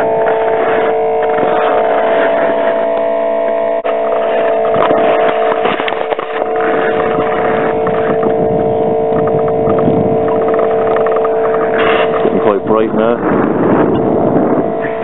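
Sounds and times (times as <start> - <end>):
rustling noise: 0.0 - 12.6
heater whine: 0.0 - 15.0.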